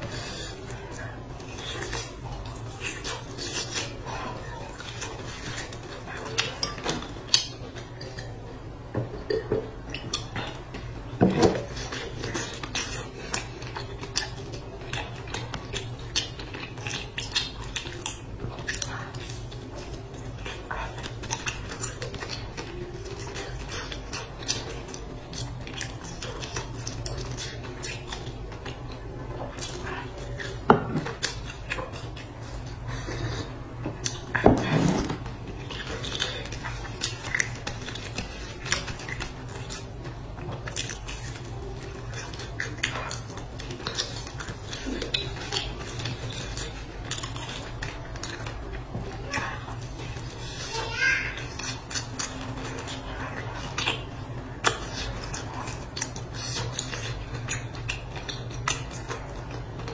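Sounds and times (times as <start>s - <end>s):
biting and chewing pastries: 0.0s - 8.5s, 9.2s - 59.9s.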